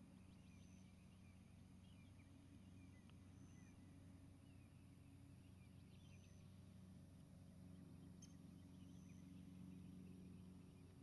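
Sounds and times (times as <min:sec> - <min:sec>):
distant bird chirps: 0:00.0 - 0:11.0
steady low hum: 0:00.0 - 0:11.0.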